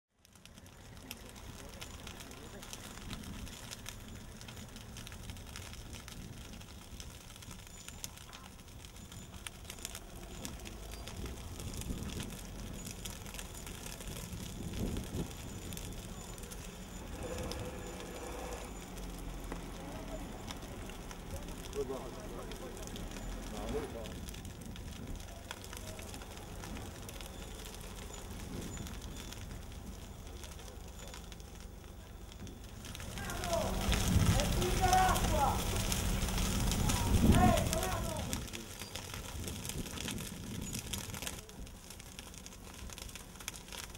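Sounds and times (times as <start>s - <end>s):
grass and brush fire crackling: 0.1s - 43.9s
low fire rumble: 0.1s - 43.9s.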